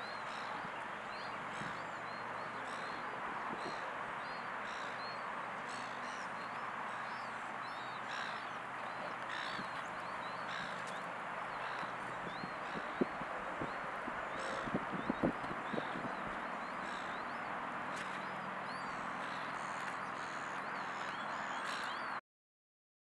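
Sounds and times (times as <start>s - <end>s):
steady outdoor hiss: 0.0s - 22.2s.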